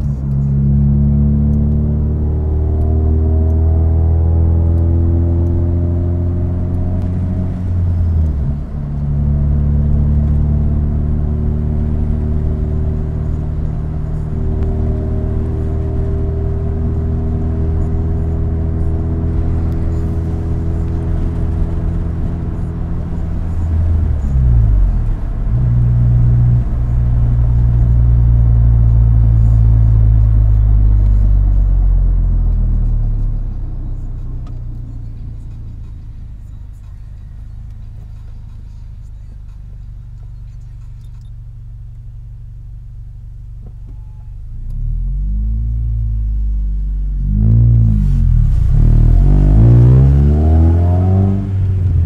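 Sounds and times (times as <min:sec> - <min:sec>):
car engine running: 0:00.0 - 0:52.0.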